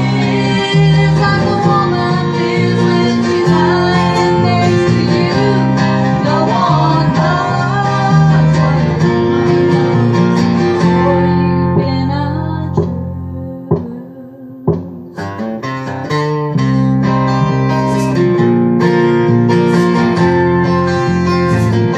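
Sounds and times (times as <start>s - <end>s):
band music led by guitar: 0.0s - 21.9s
bass notes: 0.0s - 21.9s.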